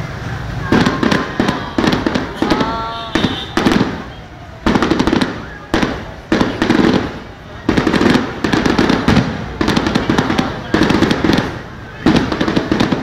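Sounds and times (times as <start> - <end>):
firework crackle: 0.0 - 13.0.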